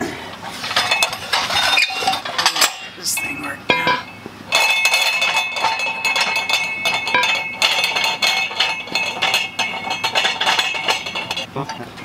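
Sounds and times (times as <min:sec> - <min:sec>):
metal clinking and rattling: 0:00.3 - 0:11.8
faint metallic ringing: 0:00.3 - 0:12.0.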